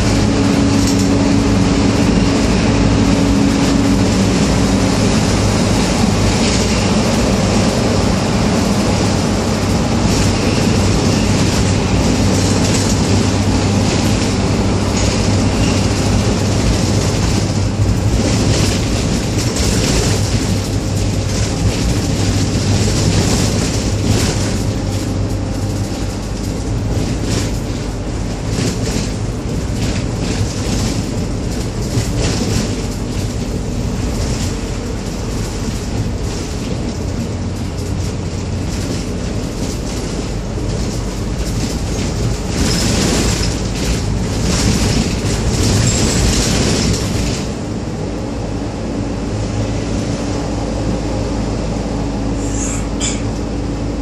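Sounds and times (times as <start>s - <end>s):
road rumble: 0.0s - 54.0s
vehicle engine drone: 0.0s - 54.0s.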